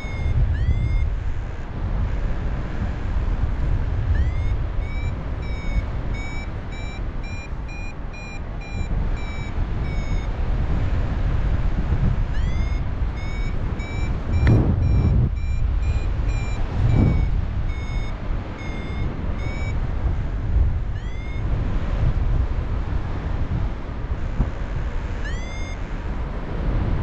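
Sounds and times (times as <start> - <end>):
variometer beeping: 0.0 - 1.6, 3.6 - 22.2, 24.5 - 26.0
wind rumble on microphone: 0.0 - 27.0.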